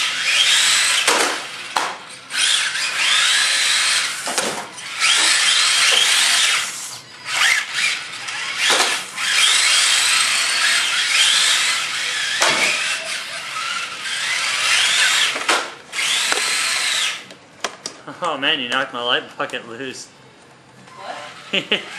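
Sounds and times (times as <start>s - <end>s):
electric motors whining: 0.0s - 17.4s, 20.8s - 21.9s.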